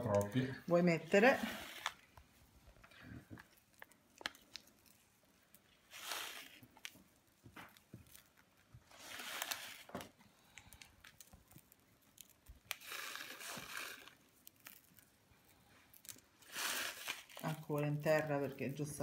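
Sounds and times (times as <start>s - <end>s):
sugar packet rustling: 0.0s - 19.0s.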